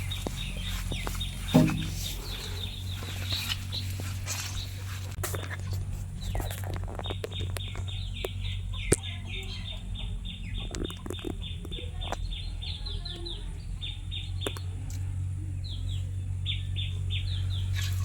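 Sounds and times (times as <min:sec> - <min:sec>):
birds chirping: 0:00.0 - 0:18.0
low engine hum: 0:00.0 - 0:18.0.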